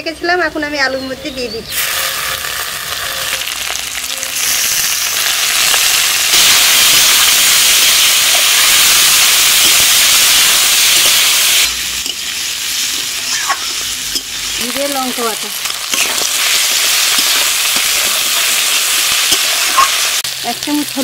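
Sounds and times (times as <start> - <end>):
food sizzling in hot oil: 1.7 - 21.0.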